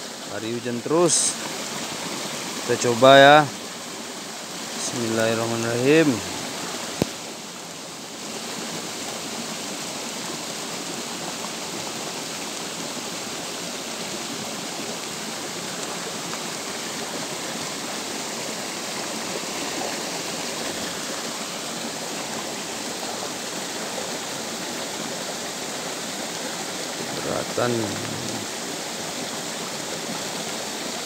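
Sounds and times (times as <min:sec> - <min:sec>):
rain falling on water and leaves: 0:00.0 - 0:31.0
stream running: 0:00.0 - 0:31.0.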